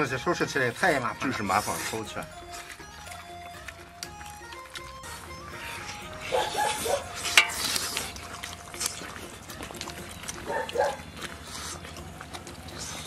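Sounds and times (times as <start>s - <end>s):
wet chewing and lip-smacking: 0.8s - 13.0s.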